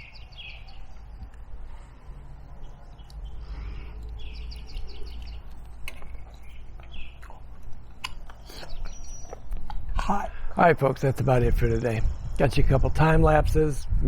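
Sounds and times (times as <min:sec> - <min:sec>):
songbirds chirping: 0:00.0 - 0:13.9
low outdoor background rumble: 0:00.0 - 0:14.0.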